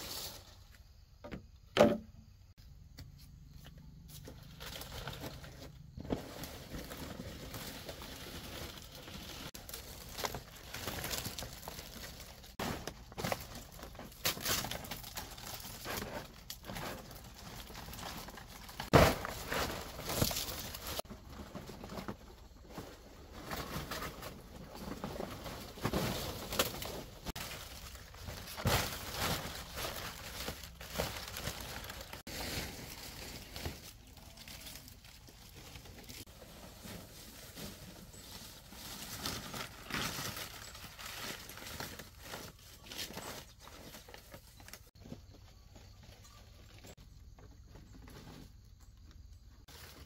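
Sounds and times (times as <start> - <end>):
palm leaves rustling and crackling: 4.2 - 45.2, 49.6 - 50.0.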